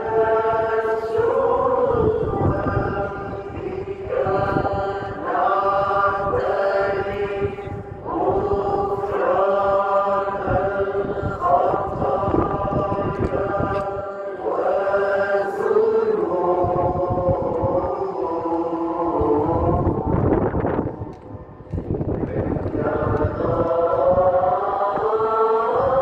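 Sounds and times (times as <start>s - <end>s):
voices chanting a hymn: 0.0s - 26.0s.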